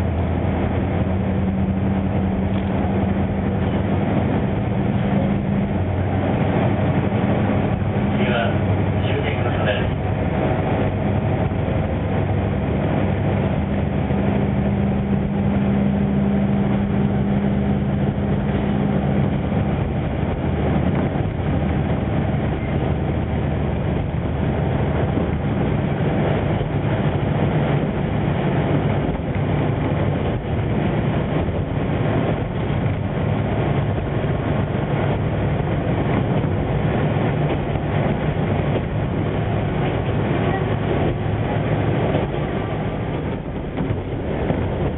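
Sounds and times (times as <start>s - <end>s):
railcar engine drone: 0.0s - 44.9s
wheel on rail rumble: 0.0s - 44.9s.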